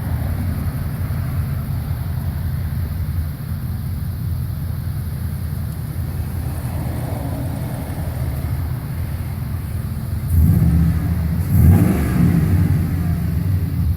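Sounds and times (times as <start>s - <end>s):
engine exhaust rumble: 0.0s - 13.9s.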